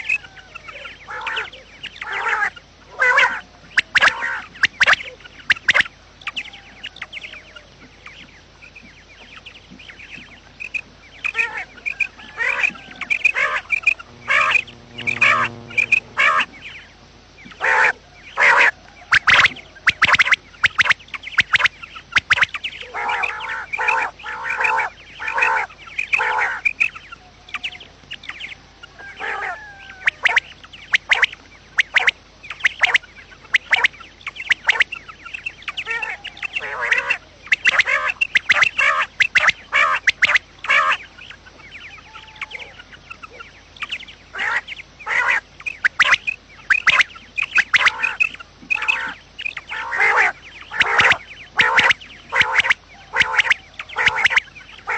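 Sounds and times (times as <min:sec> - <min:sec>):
quails calling: 0:00.0 - 0:54.9.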